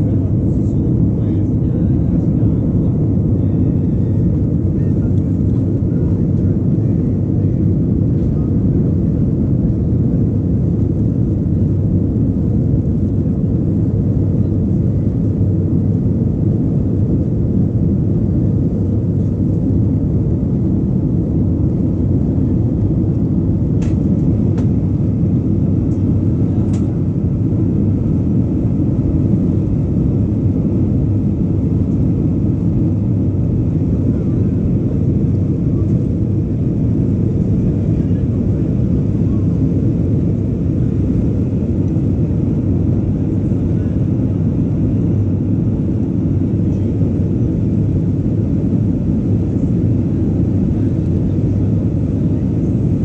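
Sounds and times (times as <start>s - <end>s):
airplane cabin roar: 0.0s - 53.0s.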